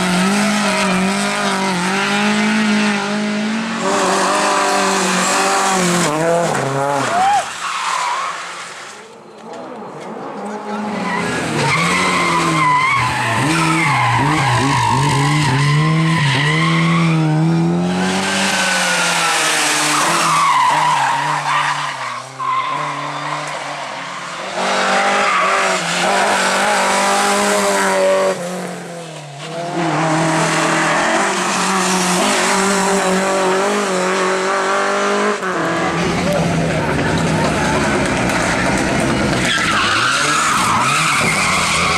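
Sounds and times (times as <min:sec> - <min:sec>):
rally car engines revving: 0:00.0 - 0:41.9
tyres skidding: 0:00.0 - 0:41.9.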